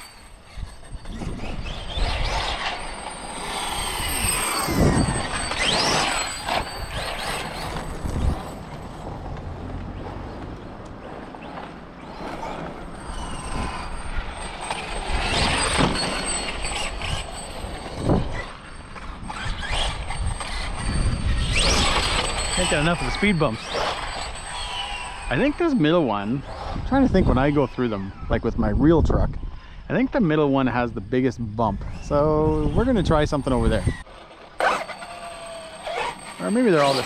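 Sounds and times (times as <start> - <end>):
tyre and drivetrain noise: 0.0 - 28.3, 30.9 - 37.0
rc truck motor whine: 0.0 - 37.0.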